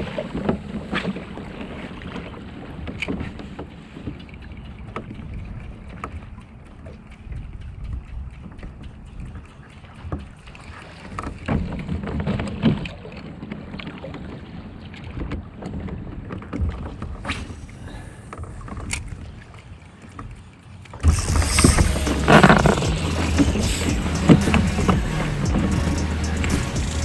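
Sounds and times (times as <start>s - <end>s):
water lapping at kayak hull: 0.0s - 27.0s.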